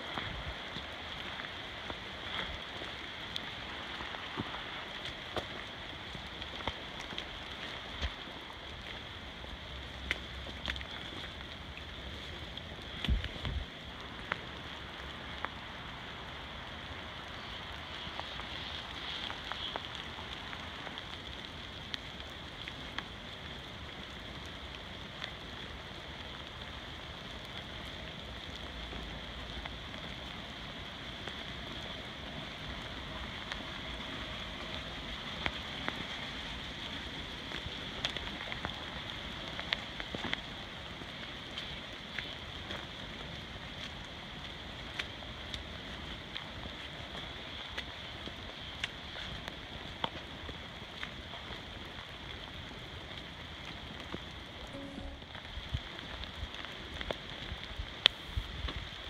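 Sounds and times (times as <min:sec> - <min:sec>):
rain on foliage: 0:00.0 - 0:59.0.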